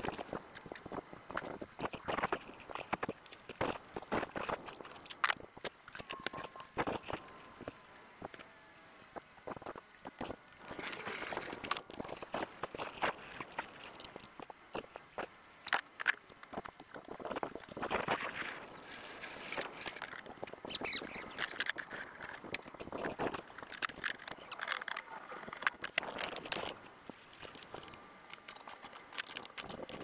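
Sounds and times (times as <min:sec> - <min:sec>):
hands handling plastic and metal parts: 0:00.0 - 0:08.6, 0:09.2 - 0:30.0.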